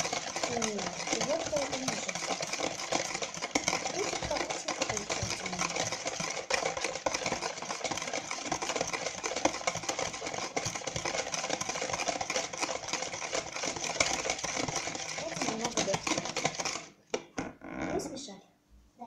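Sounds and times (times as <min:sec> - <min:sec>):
whisk clattering in plastic bowl: 0:00.0 - 0:17.4.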